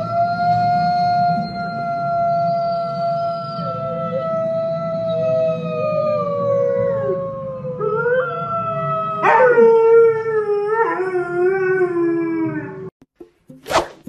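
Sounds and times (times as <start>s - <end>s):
dog howling: 0.0s - 12.9s
recorded wolf howl: 0.0s - 12.9s.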